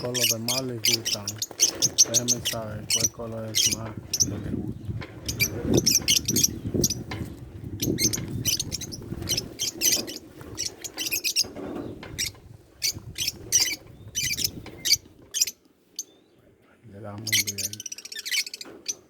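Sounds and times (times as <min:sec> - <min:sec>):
lovebirds chattering: 0:00.0 - 0:19.0.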